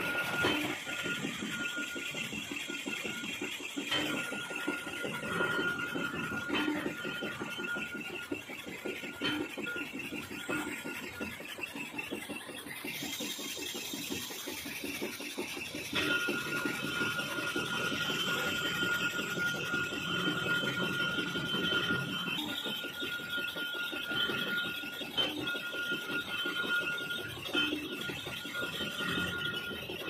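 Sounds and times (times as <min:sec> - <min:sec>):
metal lathe cutting: 0:00.0 - 0:30.0
steady high whine: 0:00.0 - 0:30.0.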